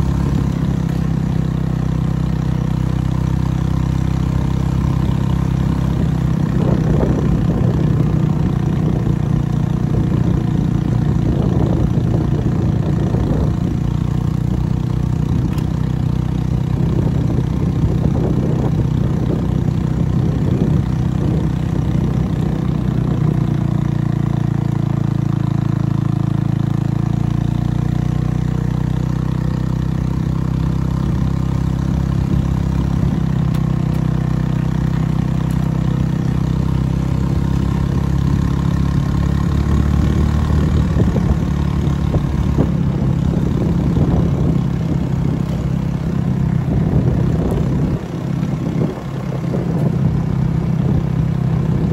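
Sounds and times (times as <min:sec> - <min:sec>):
motorcycle engine with loud exhaust: 0:00.0 - 0:51.9.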